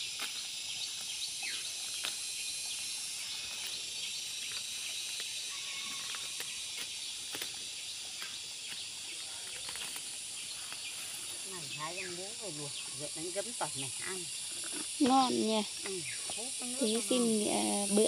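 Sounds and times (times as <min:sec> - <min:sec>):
rural background hiss: 0:00.0 - 0:18.0.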